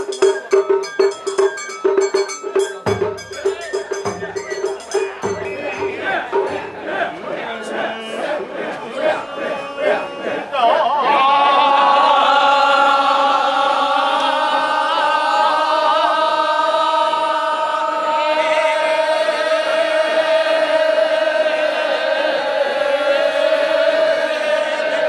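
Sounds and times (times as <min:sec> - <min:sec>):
men chanting in unison: 0:03.4 - 0:25.0.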